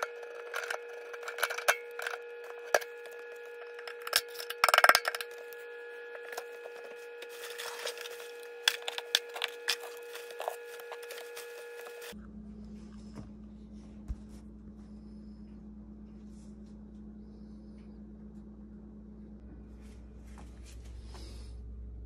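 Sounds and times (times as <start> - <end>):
steady high-pitched hum: 0.0 - 22.0.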